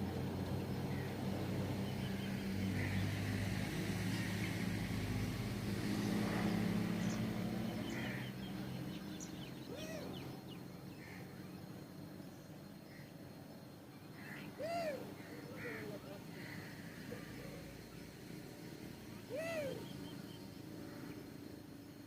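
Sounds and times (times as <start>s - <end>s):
motor vehicle engine hum: 0.0s - 22.0s.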